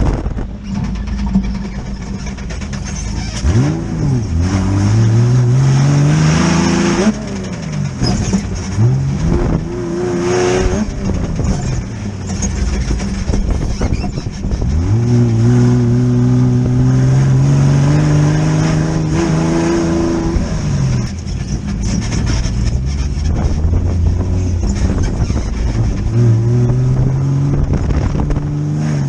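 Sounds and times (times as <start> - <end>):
buggy engine revving: 0.0 - 29.0.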